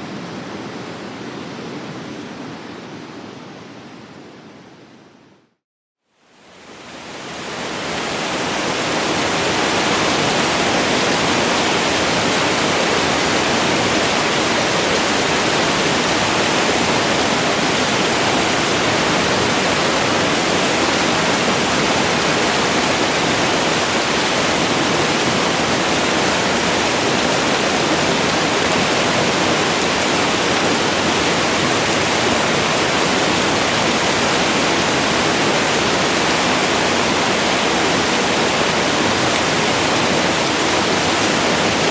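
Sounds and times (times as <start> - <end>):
waterfall rushing: 6.4 - 41.9.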